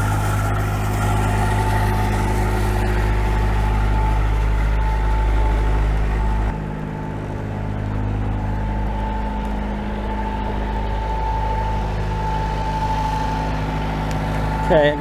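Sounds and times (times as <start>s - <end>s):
diesel engine under load: 0.0s - 15.0s
high whine: 0.0s - 15.0s.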